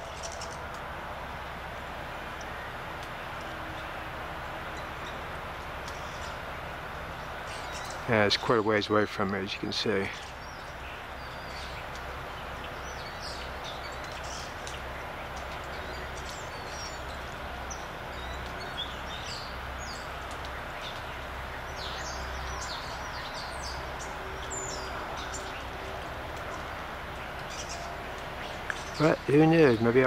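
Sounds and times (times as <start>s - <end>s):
small birds chirping: 0.0s - 30.0s
steady background hiss: 0.0s - 30.0s.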